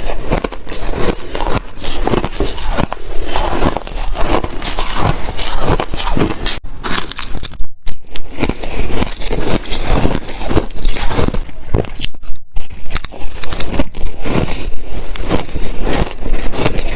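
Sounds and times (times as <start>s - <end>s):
crunching shaved ice: 0.0s - 16.9s.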